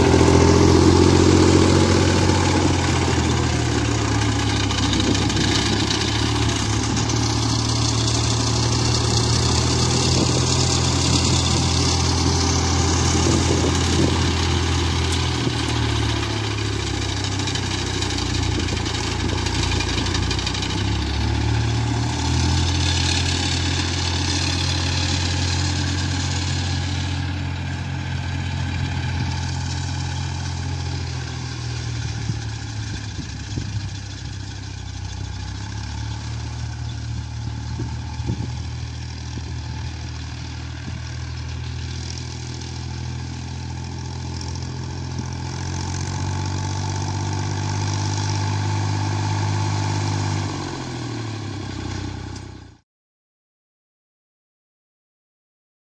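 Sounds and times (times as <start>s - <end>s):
mower cutting crop: 0.0s - 52.8s
tractor diesel engine running: 0.0s - 52.8s.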